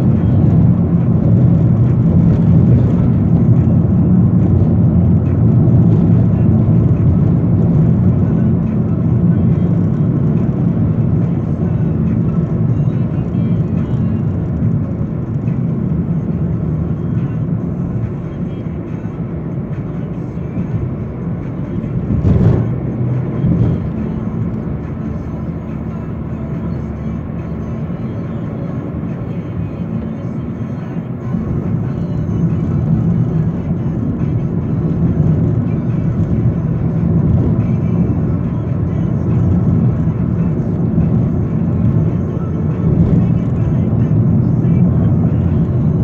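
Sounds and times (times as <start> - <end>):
car road and engine noise: 0.0 - 46.0.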